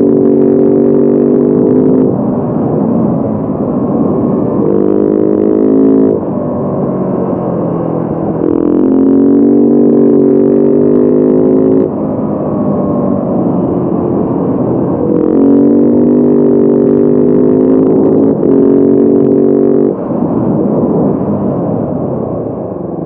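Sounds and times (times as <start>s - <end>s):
motorcycle engine running: 0.0s - 20.7s.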